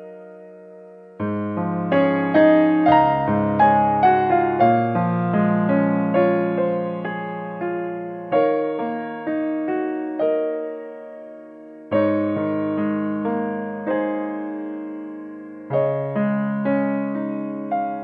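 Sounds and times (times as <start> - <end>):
slow solo piano: 0.0 - 18.0.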